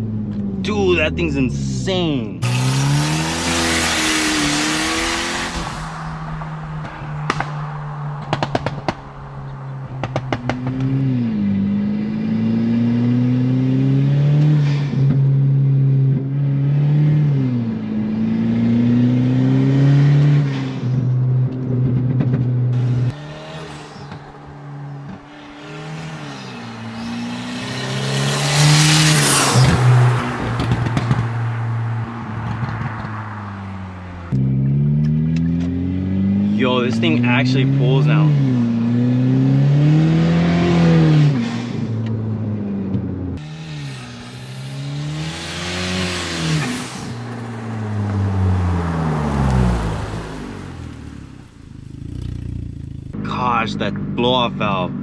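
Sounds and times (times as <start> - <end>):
exhaust crackles: 0.0 - 12.2, 20.8 - 39.4, 40.1 - 55.0
car engine revving: 0.0 - 55.0.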